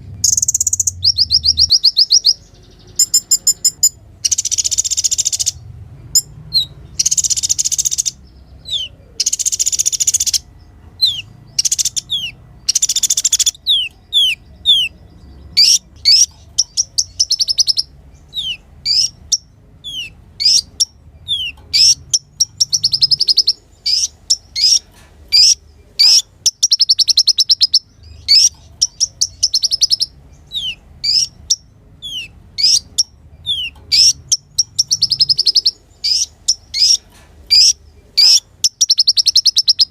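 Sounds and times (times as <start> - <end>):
buzzy bird trills: 0.0 - 14.9, 15.5 - 39.9
sunbird singing: 0.0 - 39.9.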